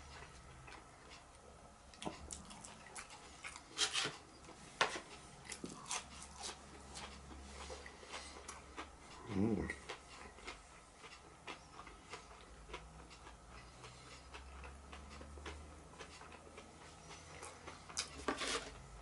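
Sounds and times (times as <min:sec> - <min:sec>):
person chewing food: 0:00.0 - 0:18.8.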